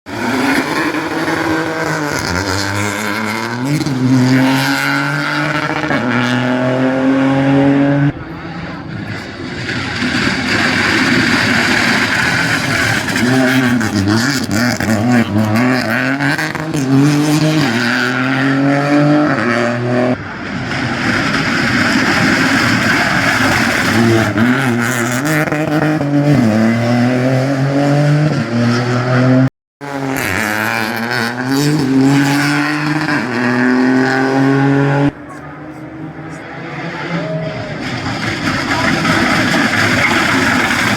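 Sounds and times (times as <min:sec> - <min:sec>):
rally car engine revving: 0:00.1 - 0:40.9.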